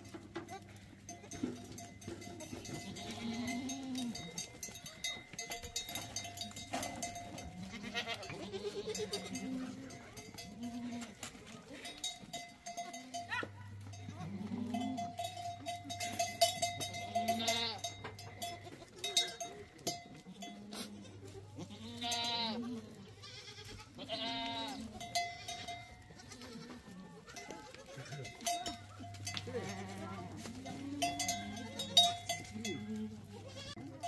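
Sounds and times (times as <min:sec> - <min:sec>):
goats bleating: 0:00.0 - 0:34.0
livestock bells clinking: 0:00.0 - 0:34.0.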